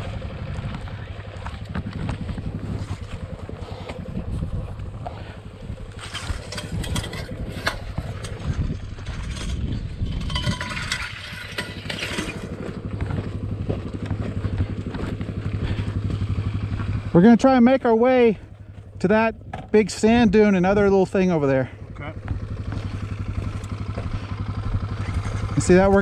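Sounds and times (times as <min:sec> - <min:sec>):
dirt bike engine idling: 0:00.0 - 0:26.0.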